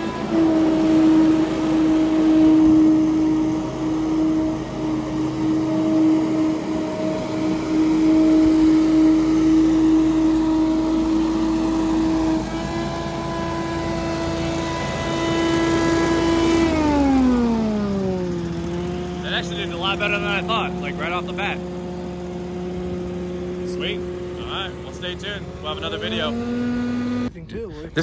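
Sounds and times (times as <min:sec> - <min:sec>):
leaf blower running: 0:00.0 - 0:27.3.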